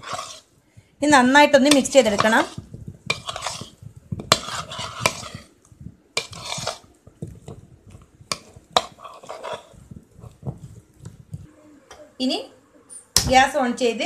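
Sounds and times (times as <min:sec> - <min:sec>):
spoon stirring and scraping food: 0:00.0 - 0:11.5.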